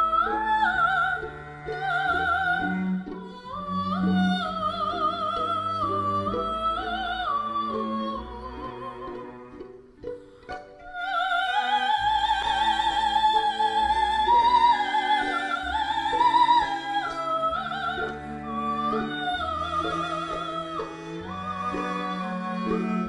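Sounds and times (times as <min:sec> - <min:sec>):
woman singing soprano with vibrato: 0:00.0 - 0:09.4, 0:10.8 - 0:23.0
string accompaniment: 0:00.0 - 0:23.0.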